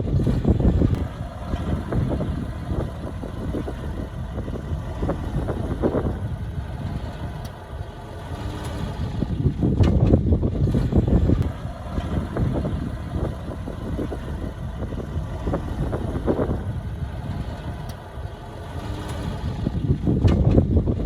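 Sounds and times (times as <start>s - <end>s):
heavy machinery diesel engine rumble: 0.0s - 21.0s.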